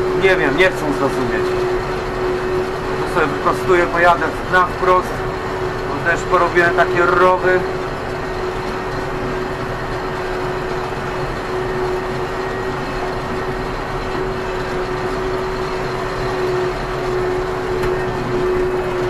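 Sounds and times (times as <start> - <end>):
constant droning tone: 0.0 - 19.0
tractor diesel engine under load: 0.0 - 19.0.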